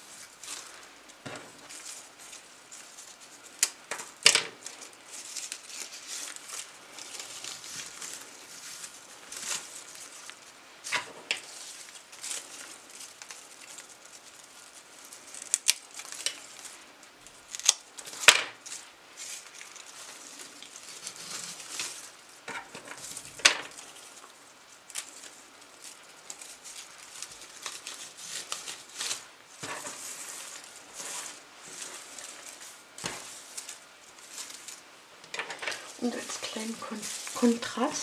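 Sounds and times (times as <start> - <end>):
greenery rustling: 0.0 - 38.0.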